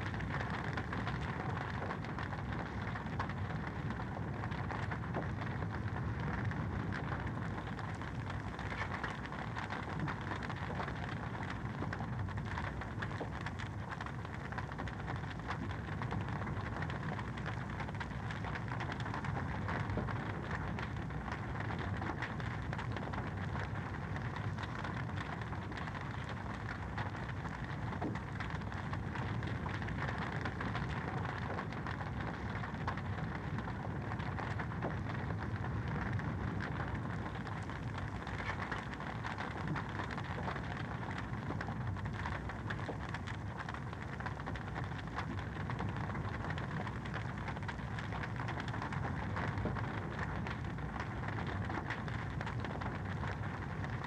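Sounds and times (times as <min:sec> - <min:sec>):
low rumble of burning: 0:00.0 - 0:54.0.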